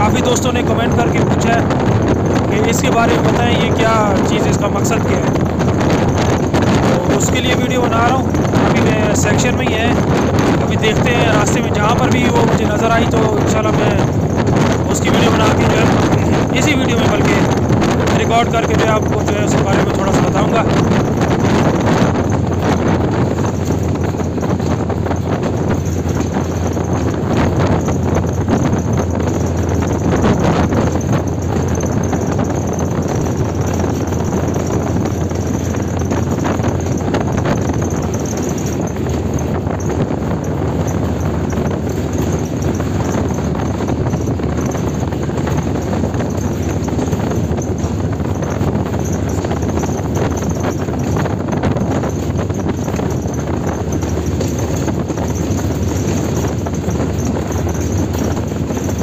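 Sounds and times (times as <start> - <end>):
locomotive engine drone: 0.0 - 59.0
wheels clattering on rails: 0.0 - 59.0.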